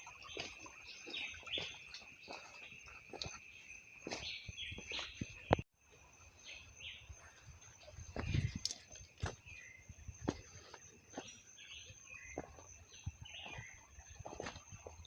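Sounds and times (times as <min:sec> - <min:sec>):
birds chirping: 0:00.0 - 0:05.6, 0:06.4 - 0:15.0.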